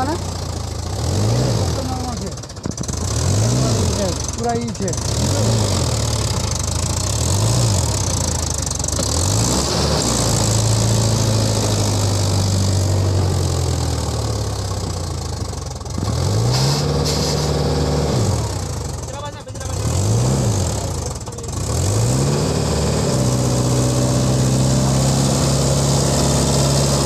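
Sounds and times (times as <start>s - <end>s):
tractor diesel engine revving: 0.0s - 27.0s.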